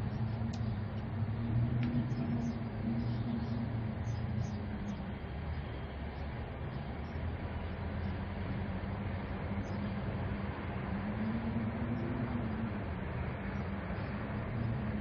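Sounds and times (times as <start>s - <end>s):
low wind tone: 0.0s - 15.0s.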